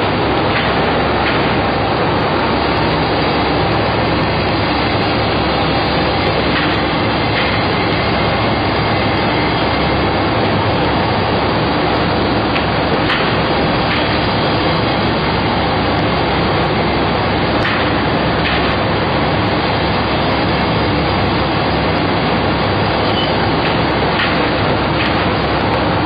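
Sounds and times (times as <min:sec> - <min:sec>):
factory machinery din: 0:00.0 - 0:26.0.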